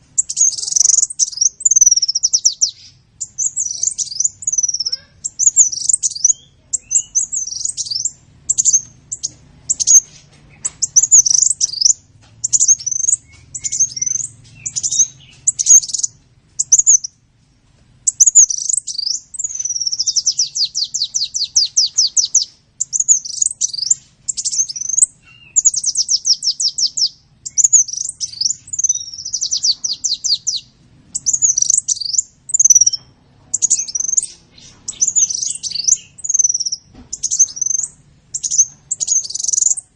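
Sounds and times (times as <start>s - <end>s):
sunbird chirping and trilling: 0.0s - 17.2s, 18.0s - 39.9s.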